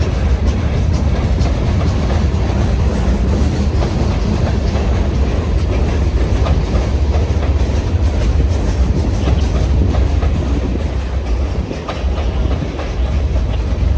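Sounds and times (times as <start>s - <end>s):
freight train rumbling on rails: 0.0s - 13.9s.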